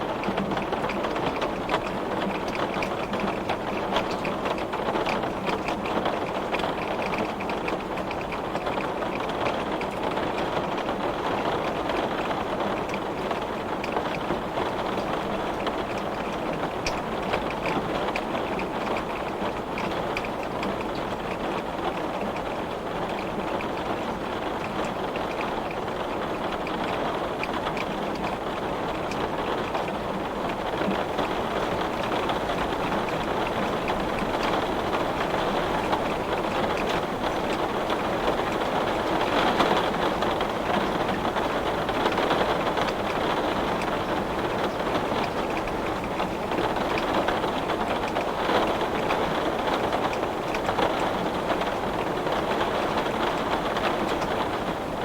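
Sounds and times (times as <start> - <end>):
heavy rain on window glass: 0.0 - 55.0.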